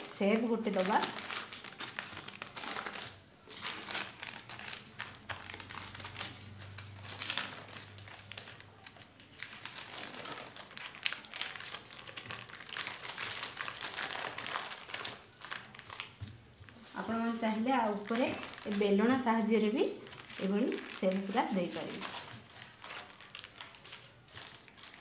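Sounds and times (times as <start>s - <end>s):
paper crinkling and rustling: 0.0s - 25.0s.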